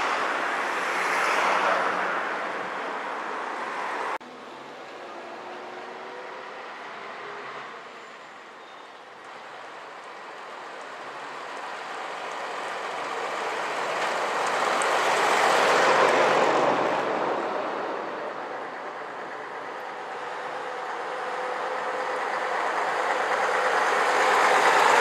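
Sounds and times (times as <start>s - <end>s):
bus approaching: 0.0s - 25.0s
bus driving past: 0.0s - 25.0s.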